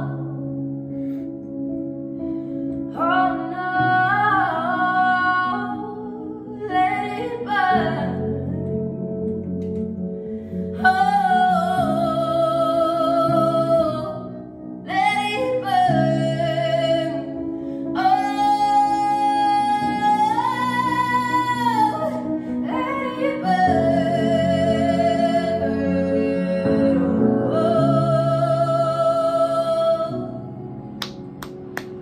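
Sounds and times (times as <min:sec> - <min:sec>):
woman singing a slow ballad: 0:00.0 - 0:00.6, 0:02.7 - 0:09.0, 0:10.6 - 0:30.7
piano chords: 0:00.0 - 0:32.0.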